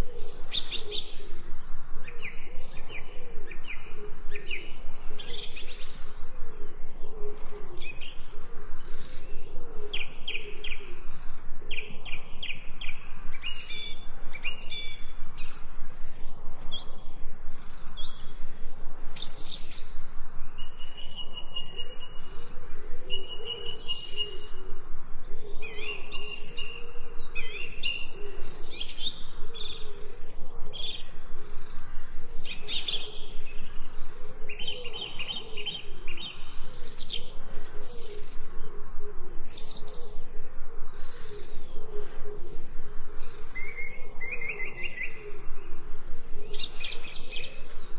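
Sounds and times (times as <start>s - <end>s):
birds singing and chirping: 0.0s - 47.9s.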